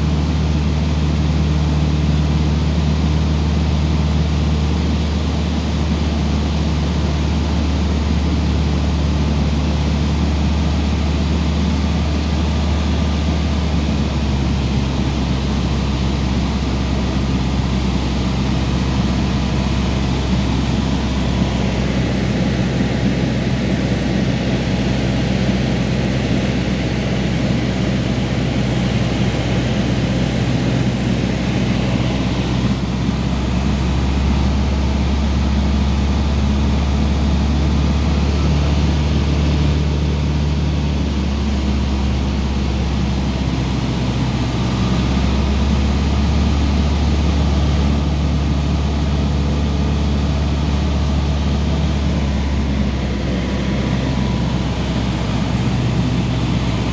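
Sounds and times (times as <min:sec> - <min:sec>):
small plane engine droning in cabin: 0:00.0 - 0:56.9.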